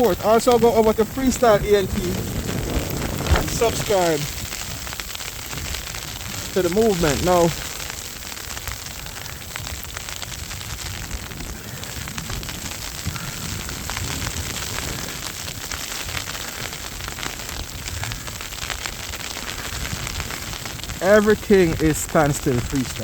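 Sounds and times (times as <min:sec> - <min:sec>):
hiss of blowing snow: 0:00.0 - 0:23.0
wind buffeting microphone: 0:00.0 - 0:23.0.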